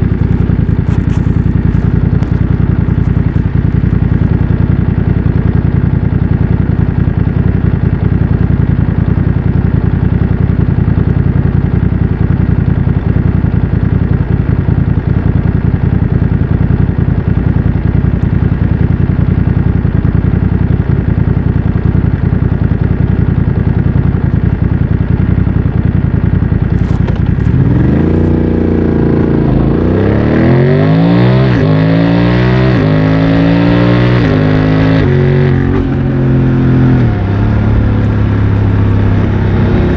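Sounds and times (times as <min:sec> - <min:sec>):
motorcycle engine idling: 0:00.0 - 0:30.9, 0:33.3 - 0:39.9
motorcycle accelerating with upshifts: 0:00.0 - 0:39.9.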